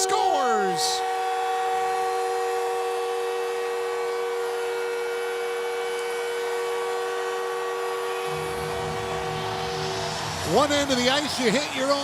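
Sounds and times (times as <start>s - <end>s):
arena goal horn: 0.0s - 12.0s.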